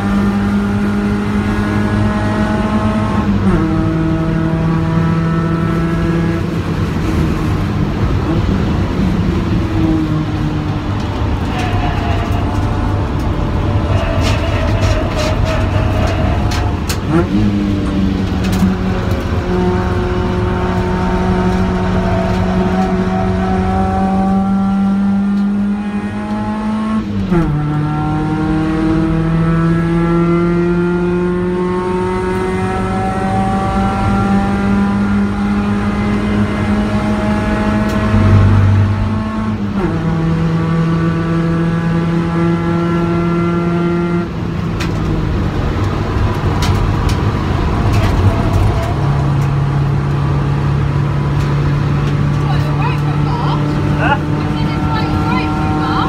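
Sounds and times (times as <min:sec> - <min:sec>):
car engine revving through gears: 0:00.0 - 0:56.0
road and wind noise: 0:00.0 - 0:56.0.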